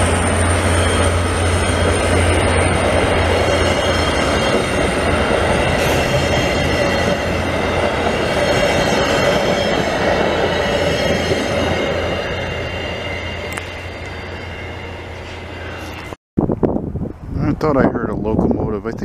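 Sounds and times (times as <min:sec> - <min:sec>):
high-pitched ringing tones: 0:00.0 - 0:16.2
train cars rumbling past: 0:00.0 - 0:16.2.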